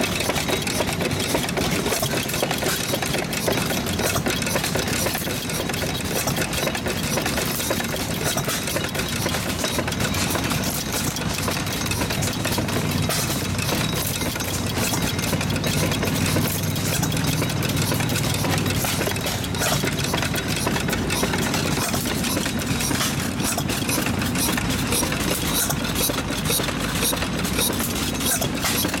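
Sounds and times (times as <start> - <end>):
fine clicking: 0.0 - 29.0
gas engine running: 0.0 - 29.0.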